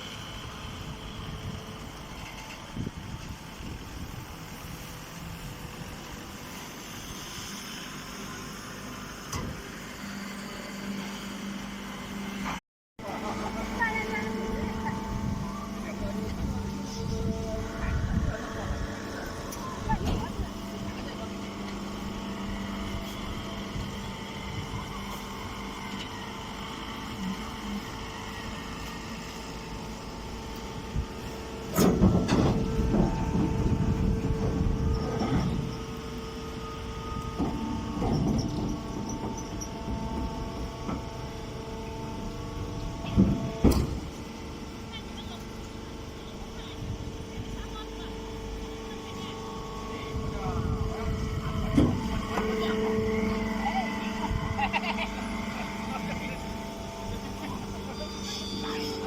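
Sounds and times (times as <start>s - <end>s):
baler machine running: 0.0s - 59.0s
steady hum: 10.2s - 59.0s.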